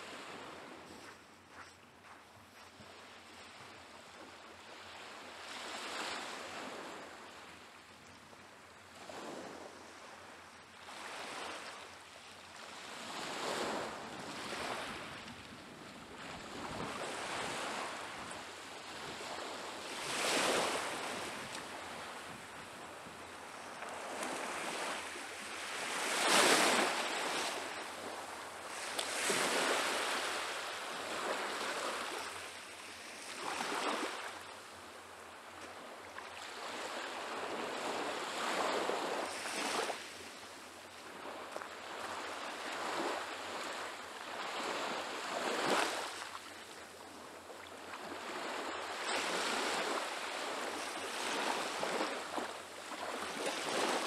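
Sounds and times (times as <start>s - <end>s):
small waves washing onto sand: 8.6s - 54.0s.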